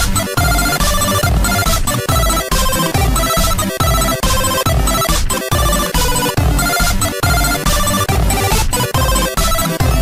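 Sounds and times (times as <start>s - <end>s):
loud music with heavy beat: 0.0s - 10.0s.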